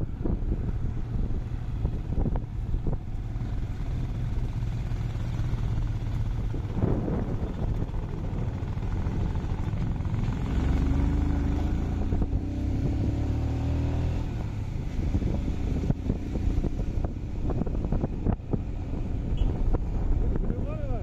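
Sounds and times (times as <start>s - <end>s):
motorcycle engine running: 0.0s - 13.3s, 14.2s - 21.0s
low rumble: 0.0s - 21.0s.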